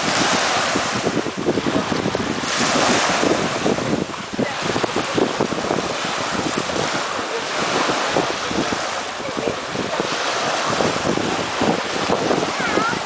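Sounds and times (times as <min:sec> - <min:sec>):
waves splashing in shallow water: 0:00.0 - 0:13.0
wind buffeting microphone: 0:00.0 - 0:13.0.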